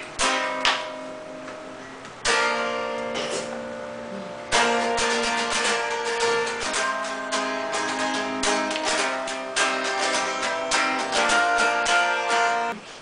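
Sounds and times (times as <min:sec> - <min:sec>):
electric guitar strumming: 0:00.0 - 0:12.8.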